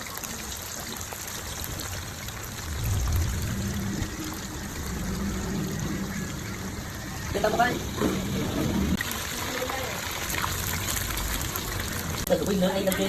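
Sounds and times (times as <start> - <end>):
chicken sizzling in hot oil: 0.0 - 13.0
low rumble: 1.2 - 9.0, 10.2 - 13.0.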